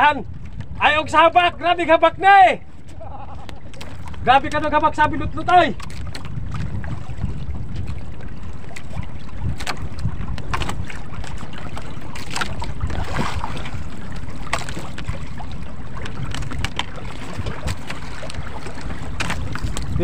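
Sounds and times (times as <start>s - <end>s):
water sloshing against hull: 0.0s - 20.0s
wind buffeting microphone: 0.0s - 20.0s.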